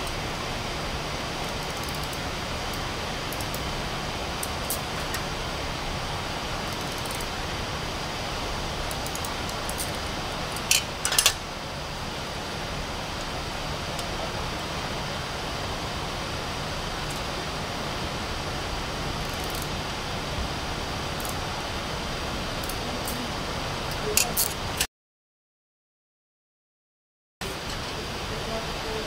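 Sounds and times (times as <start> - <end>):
steady background hiss: 0.0 - 24.9, 27.4 - 29.0.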